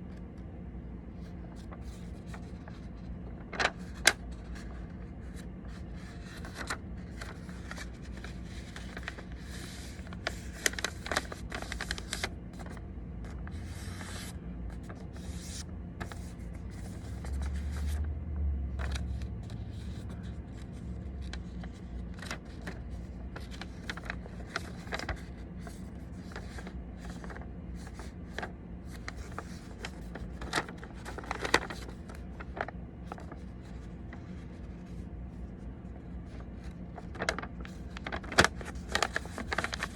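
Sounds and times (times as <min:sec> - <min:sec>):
paper being folded and creased: 0:01.1 - 0:39.9.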